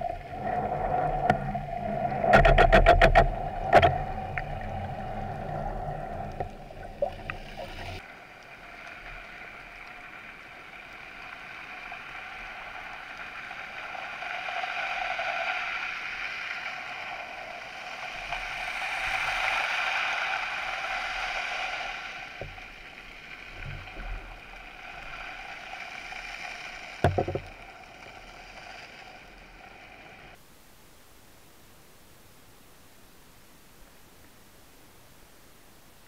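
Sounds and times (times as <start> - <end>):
water rushing and sloshing: 0.0 - 30.4.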